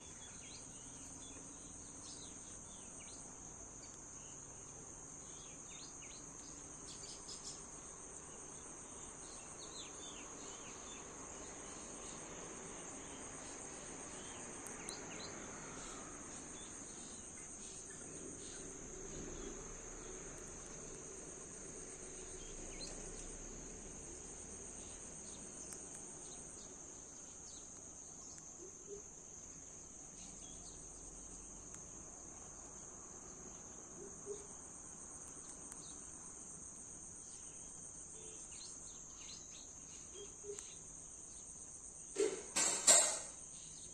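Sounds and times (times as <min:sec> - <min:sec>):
insect chorus trilling: 0:00.0 - 0:43.9.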